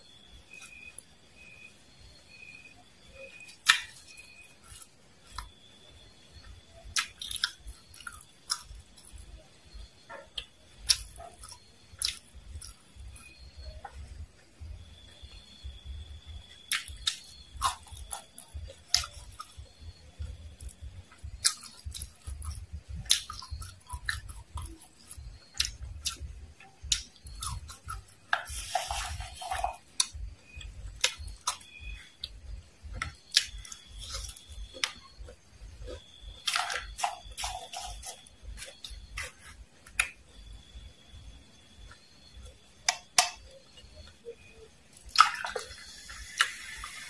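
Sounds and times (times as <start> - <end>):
sharp crunches of chewing: 3.2 - 5.6, 6.3 - 14.0, 16.7 - 41.2, 41.8 - 47.0.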